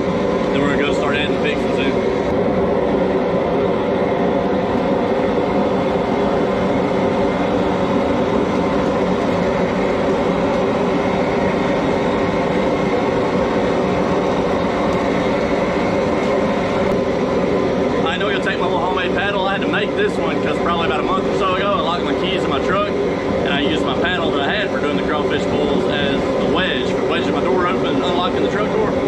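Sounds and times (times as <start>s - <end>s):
propane burner roaring: 0.0s - 29.0s.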